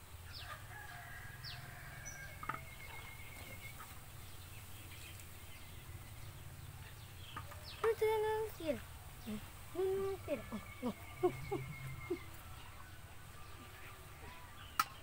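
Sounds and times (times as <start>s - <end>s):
faint bird chirps: 1.4s - 15.0s.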